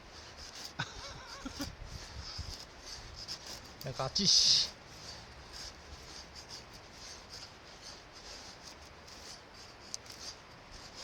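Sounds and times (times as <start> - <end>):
knife shaving wooden stick: 0.0 - 11.0.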